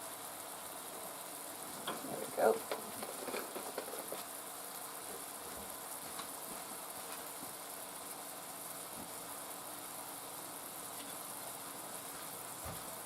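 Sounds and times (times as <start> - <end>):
meat and onions sizzling: 0.0 - 13.0.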